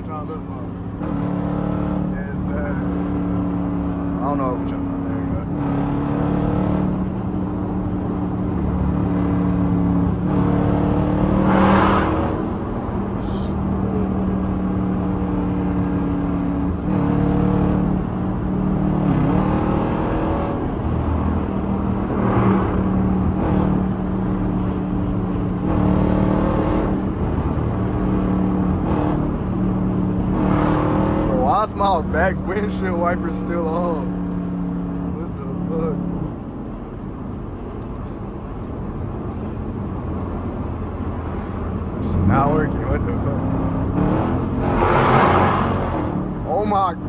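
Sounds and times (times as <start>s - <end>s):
engine drone: 0.0s - 47.0s
tyre and road noise: 0.0s - 47.0s.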